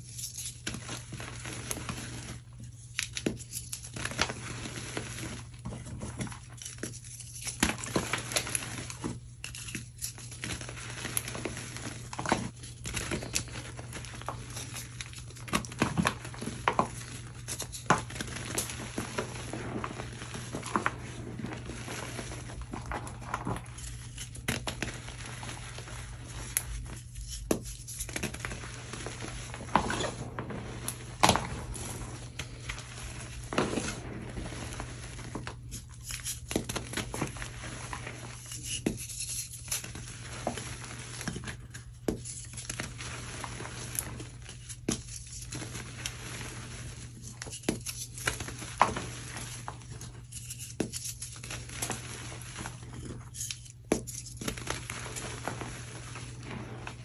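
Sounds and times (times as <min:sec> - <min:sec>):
powder sifting through fingers: 0:03.2 - 0:57.0.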